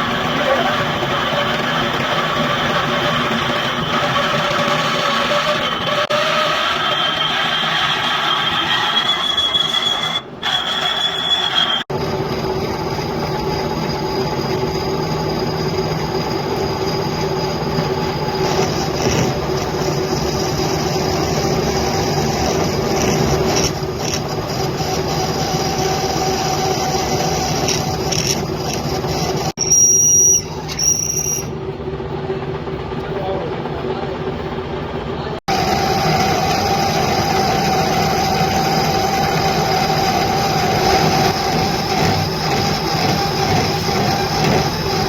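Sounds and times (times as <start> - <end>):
cutting tool squealing: 0.0 - 11.9, 13.5 - 31.6, 35.5 - 45.0
metal lathe running: 0.0 - 45.0.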